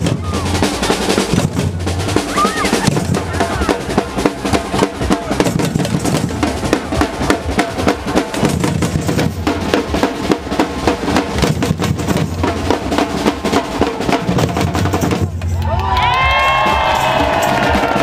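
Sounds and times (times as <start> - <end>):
bass drums: 0.0 - 18.0
snare drums: 0.0 - 18.0.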